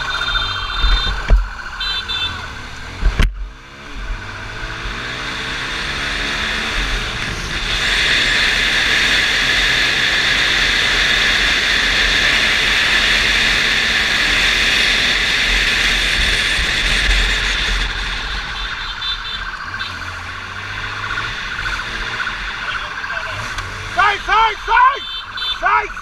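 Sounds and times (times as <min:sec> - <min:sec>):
motorcycle engine accelerating: 0:00.0 - 0:25.5.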